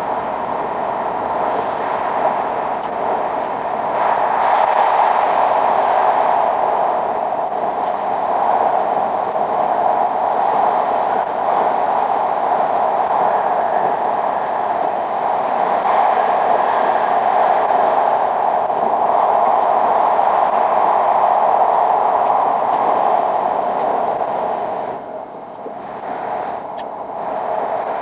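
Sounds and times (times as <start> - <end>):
train running in a tunnel: 0.0 - 28.0.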